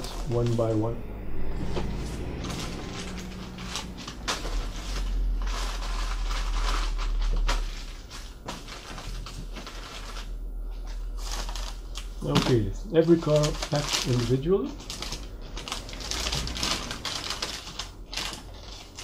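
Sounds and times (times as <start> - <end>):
low steady hum: 0.0 - 19.0
newspaper rustling and crinkling: 1.7 - 19.0.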